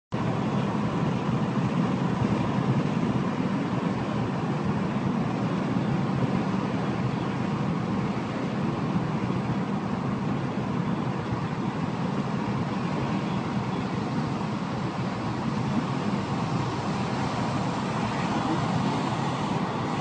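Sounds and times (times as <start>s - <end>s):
vehicle engine and tyre noise: 0.1s - 20.0s.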